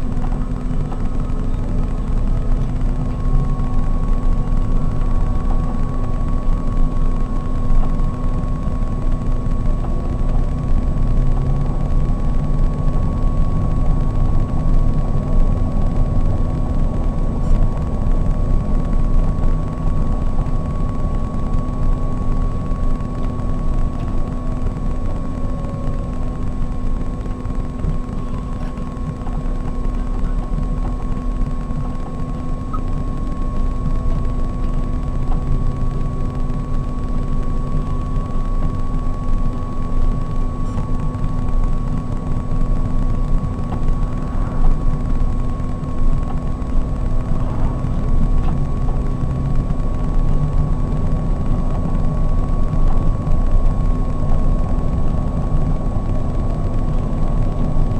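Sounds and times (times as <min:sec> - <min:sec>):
coach engine drone: 0:00.0 - 0:57.9
thin whine: 0:00.0 - 0:57.9.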